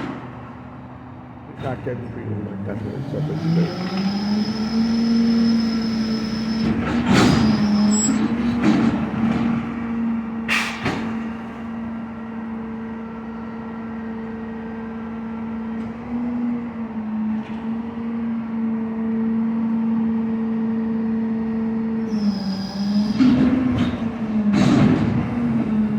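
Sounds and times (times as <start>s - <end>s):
garbage truck engine hum: 0.0s - 25.9s.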